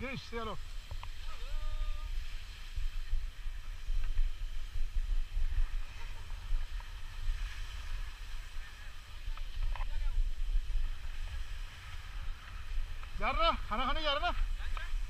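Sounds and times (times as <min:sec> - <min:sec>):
skis sliding on snow: 0:00.0 - 0:15.0
wind buffeting microphone: 0:00.0 - 0:15.0.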